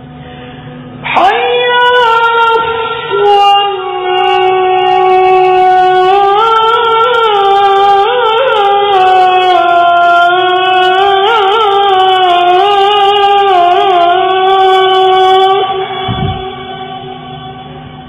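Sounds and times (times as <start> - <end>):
man chanting into a microphone: 1.1 - 17.6.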